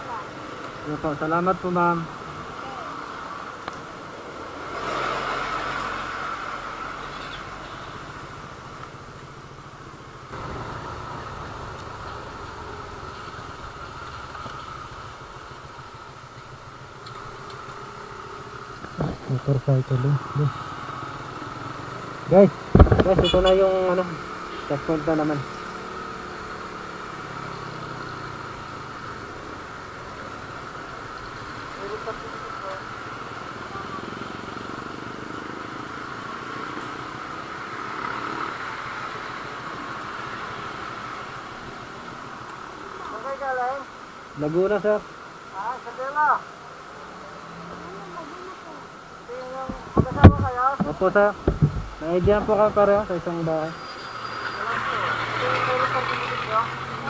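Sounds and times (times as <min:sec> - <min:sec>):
constant hiss: 0:07.0 - 0:57.0.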